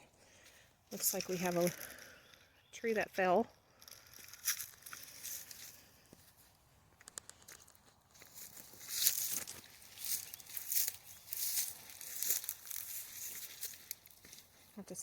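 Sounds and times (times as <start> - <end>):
footsteps on rocky trail: 0.3 - 2.5, 3.7 - 14.8.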